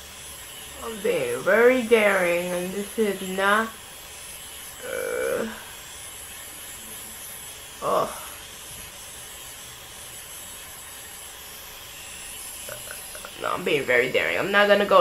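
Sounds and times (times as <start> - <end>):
hair remover whirring: 0.0 - 15.0.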